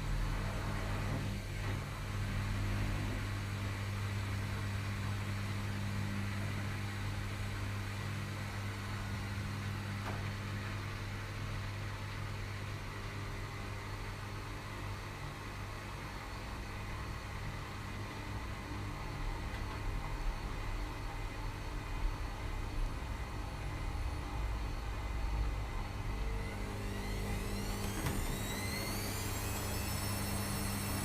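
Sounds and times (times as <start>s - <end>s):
washing machine humming: 0.0s - 31.0s.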